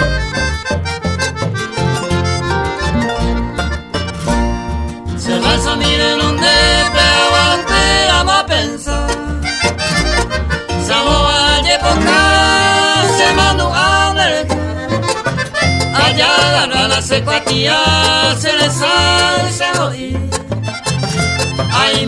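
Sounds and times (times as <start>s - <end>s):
accordion melody: 0.0s - 22.0s
bouncing bass: 0.0s - 22.0s.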